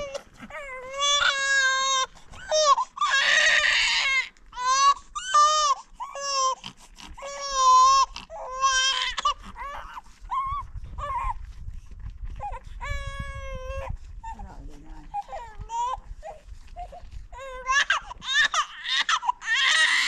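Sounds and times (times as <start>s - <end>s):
baby crying: 0.0s - 11.4s, 15.2s - 20.0s.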